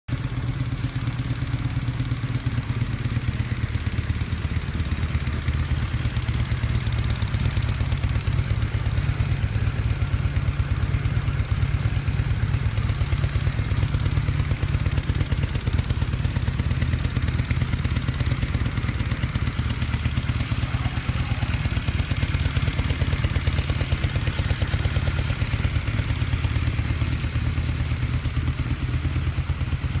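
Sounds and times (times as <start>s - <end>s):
motorcycle engine idling: 0.1s - 30.0s.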